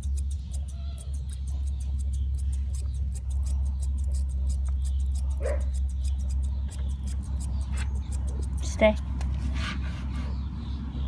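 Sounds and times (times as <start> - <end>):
fast high-pitched ticking: 0.0 - 9.1.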